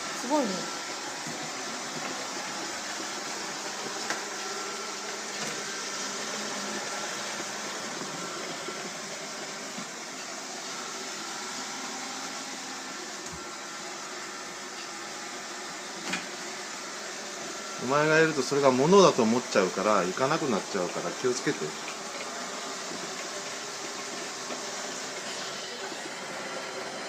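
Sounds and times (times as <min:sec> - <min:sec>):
robot vacuum whirring: 0:00.0 - 0:27.0.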